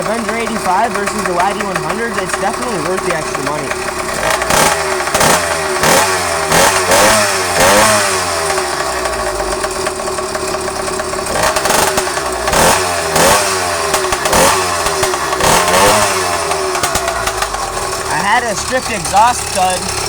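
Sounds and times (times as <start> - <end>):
two-stroke engine revving: 0.0 - 20.0.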